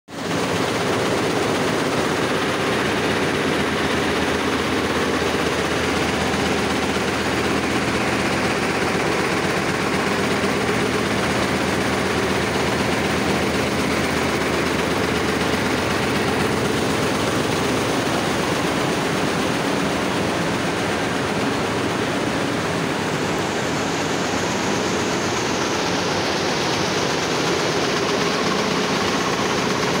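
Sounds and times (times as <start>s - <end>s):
machines running steady din: 0.2s - 30.0s.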